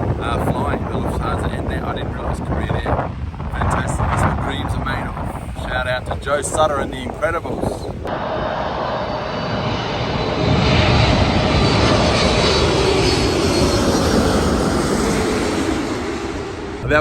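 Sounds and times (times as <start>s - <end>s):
jet plane passing overhead: 0.0s - 17.0s.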